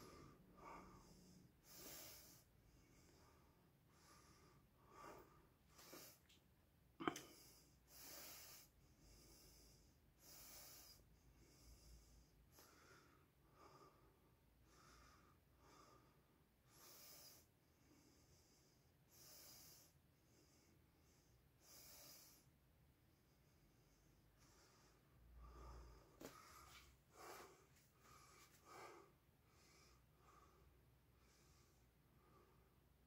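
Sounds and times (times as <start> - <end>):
man breathing faintly: 0.0 - 33.0.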